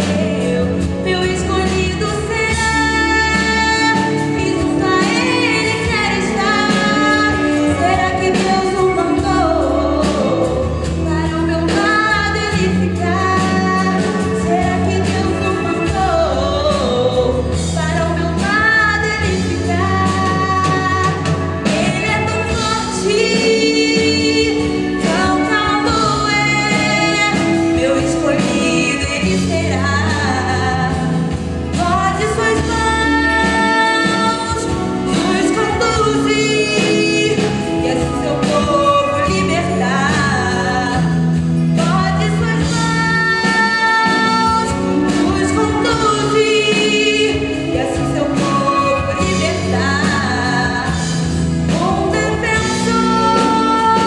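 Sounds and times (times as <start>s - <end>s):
instrumental accompaniment with bass: 0.0s - 54.0s
woman singing into microphone: 0.0s - 54.0s.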